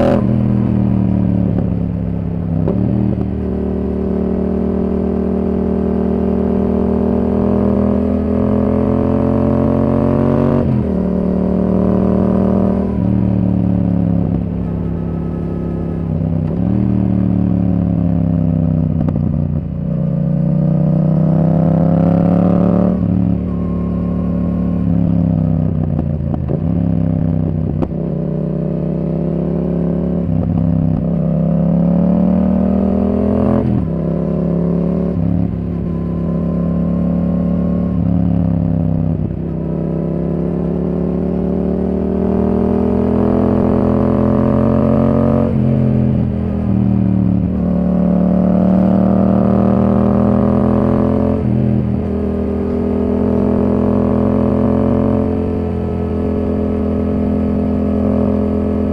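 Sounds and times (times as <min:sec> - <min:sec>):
motorcycle engine revving through gears: 0:00.0 - 0:58.9.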